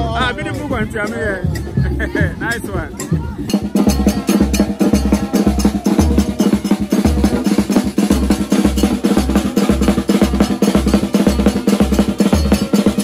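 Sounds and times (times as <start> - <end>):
bass drum beat: 0.0 - 13.0.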